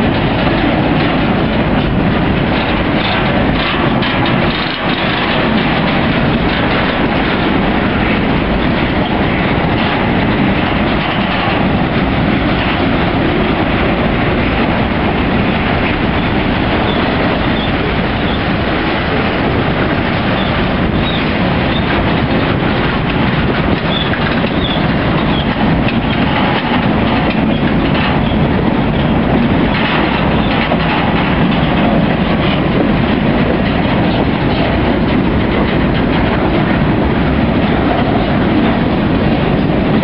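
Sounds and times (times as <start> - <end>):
train wheels rumbling on rail: 0.0 - 40.0
wheels clacking over rail joints: 0.0 - 40.0.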